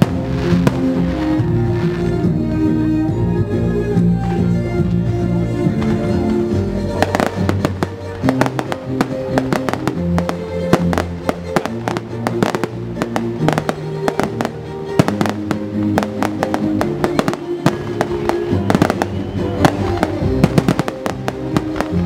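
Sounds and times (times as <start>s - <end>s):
fireworks bangs and crackles: 0.0s - 2.8s, 4.8s - 22.0s
instrumental music: 0.0s - 22.0s.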